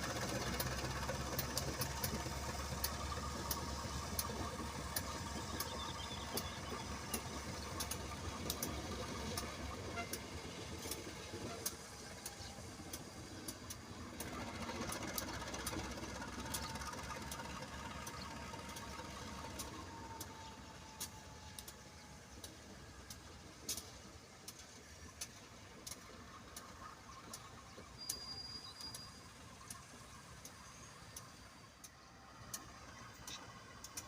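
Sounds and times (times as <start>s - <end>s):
train engine rumble: 0.0s - 34.0s
faint clicks: 0.5s - 34.0s.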